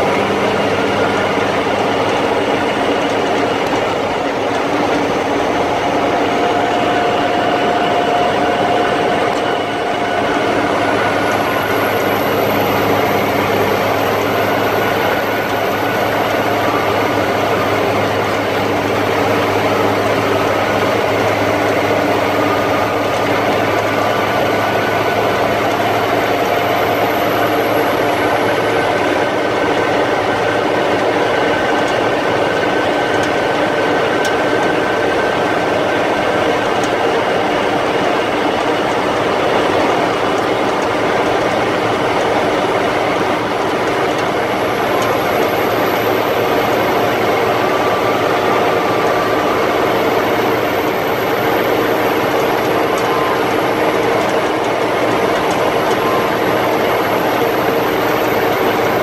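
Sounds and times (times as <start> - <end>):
drivetrain whining: 0.0 - 59.0
truck engine running: 0.0 - 59.0.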